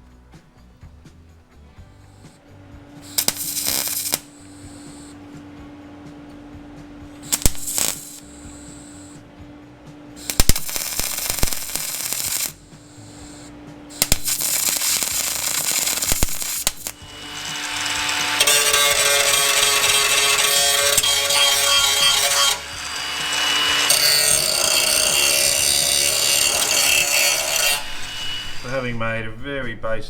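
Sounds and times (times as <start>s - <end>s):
metalworking tool cutting steel: 2.0s - 9.2s, 10.1s - 29.1s.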